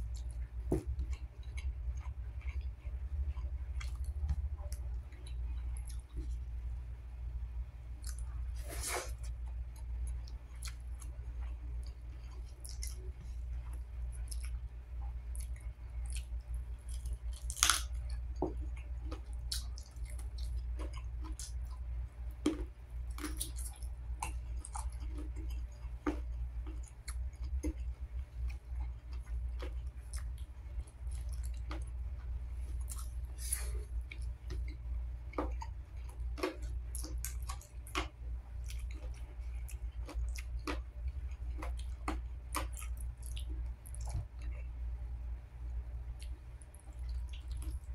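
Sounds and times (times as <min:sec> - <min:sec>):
chewing and mouth smacking: 0:00.0 - 0:06.5, 0:08.0 - 0:08.5, 0:09.2 - 0:44.7, 0:46.1 - 0:47.9
steady low hum: 0:00.0 - 0:47.9.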